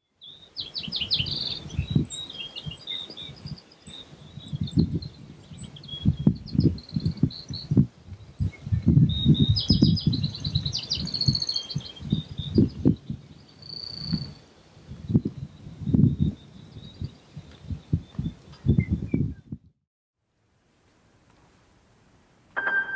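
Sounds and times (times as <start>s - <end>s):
small birds chirping: 0.0s - 19.4s.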